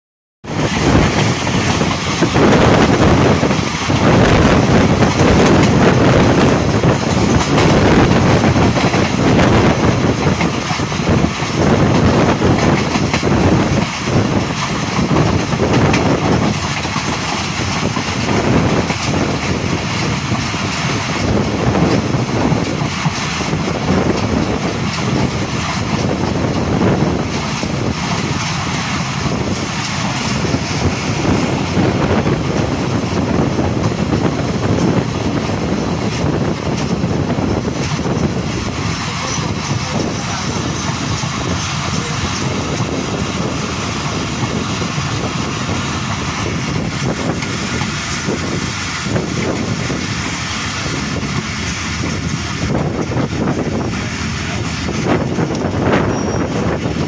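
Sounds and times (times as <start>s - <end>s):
train wheels rushing on track: 0.4s - 57.0s.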